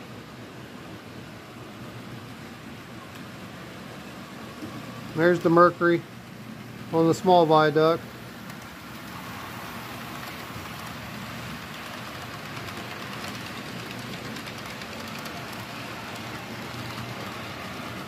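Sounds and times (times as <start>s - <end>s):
model train wheels rolling: 2.3s - 6.0s, 6.6s - 18.0s.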